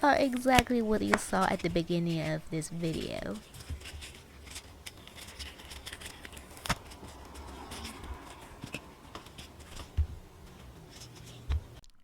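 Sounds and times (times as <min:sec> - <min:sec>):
resin pieces rustling: 0:00.2 - 0:11.8.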